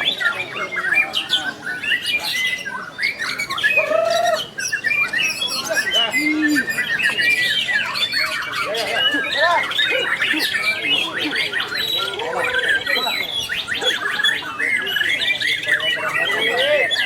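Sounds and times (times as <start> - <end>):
birds singing whistles and trills: 0.0 - 17.0.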